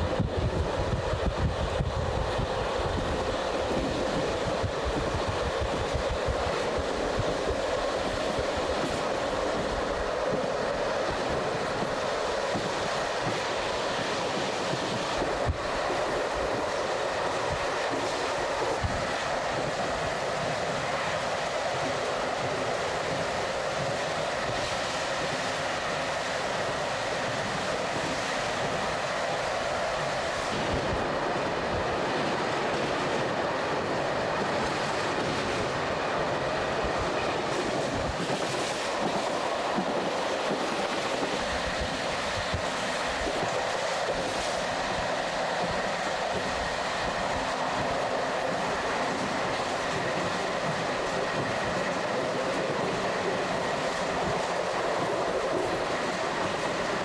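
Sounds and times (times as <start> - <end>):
train rolling rumble: 0.0 - 57.0.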